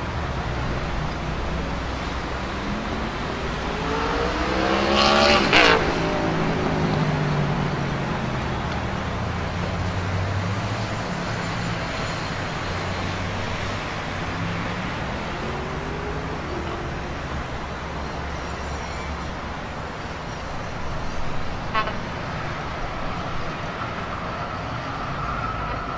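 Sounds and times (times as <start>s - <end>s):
vehicle engine passing by: 0.0s - 25.9s.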